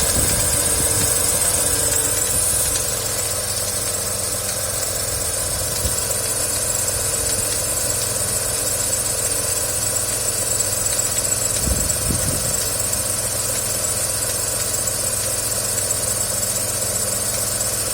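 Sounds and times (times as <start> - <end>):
engine idling: 0.0 - 17.9
engine knock thumps: 0.0 - 17.9.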